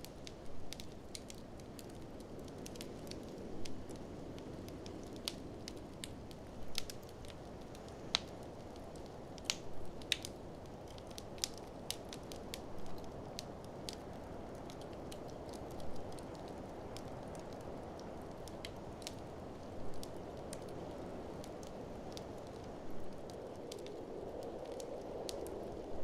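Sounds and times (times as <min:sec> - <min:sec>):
wood fire crackling and snapping: 0:00.0 - 0:26.0.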